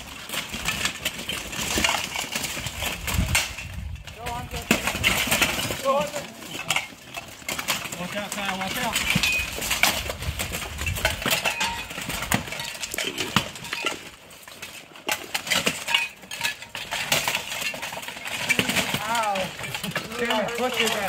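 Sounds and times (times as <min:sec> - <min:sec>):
plate armour clanking: 0:00.0 - 0:21.0.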